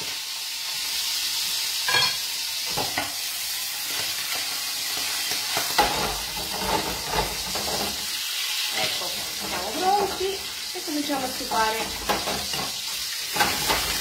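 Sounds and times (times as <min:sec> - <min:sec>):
greens sizzling in oil: 0:00.0 - 0:14.0.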